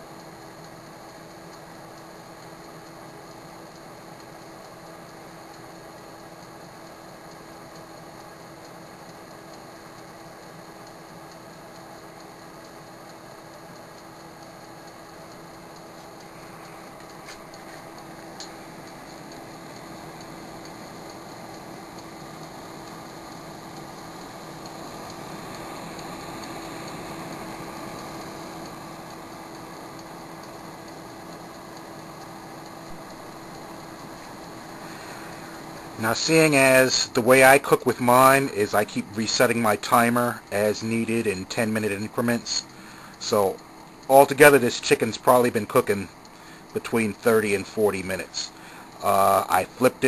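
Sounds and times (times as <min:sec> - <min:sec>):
faint ticks: 0:00.0 - 0:50.0
oven fan hiss and hum: 0:00.0 - 0:50.0.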